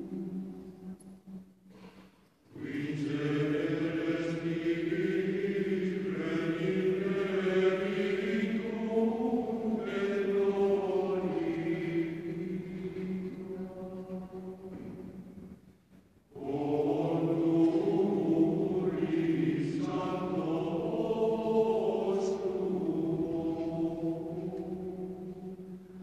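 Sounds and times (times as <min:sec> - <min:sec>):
choir singing sustained chords: 0:00.0 - 0:01.6, 0:02.4 - 0:26.0.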